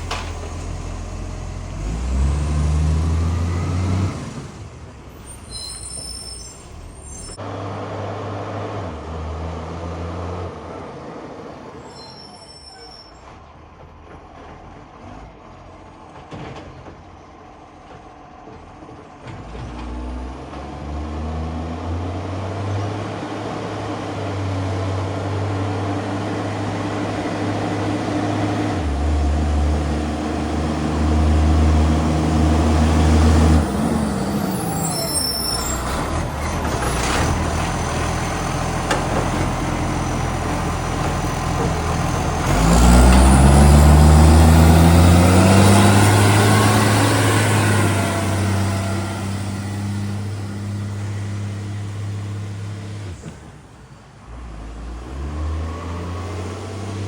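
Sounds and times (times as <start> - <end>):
diesel truck engine running: 0.0 - 11.9, 13.2 - 57.0.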